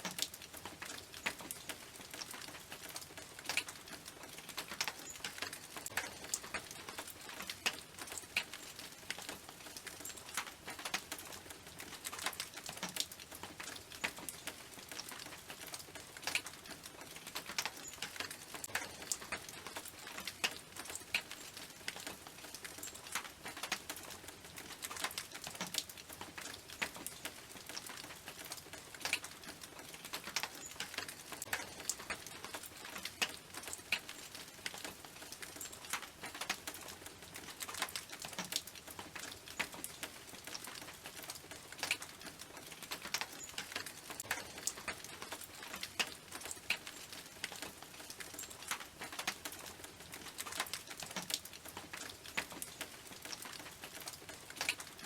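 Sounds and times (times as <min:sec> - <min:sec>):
hiss of rainfall: 0:00.0 - 0:55.0
rain on a tin roof: 0:00.0 - 0:55.0.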